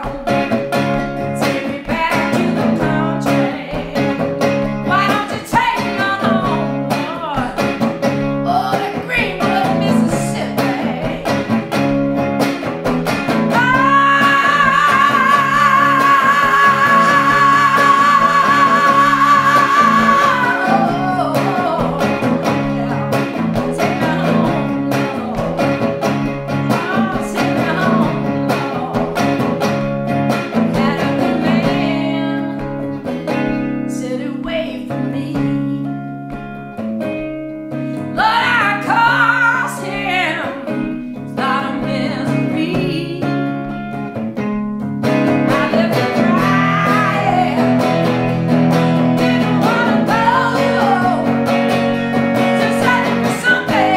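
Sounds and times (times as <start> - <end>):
woman singing blues: 0.0 - 12.3, 13.1 - 53.9
strummed electric guitar: 0.0 - 53.9.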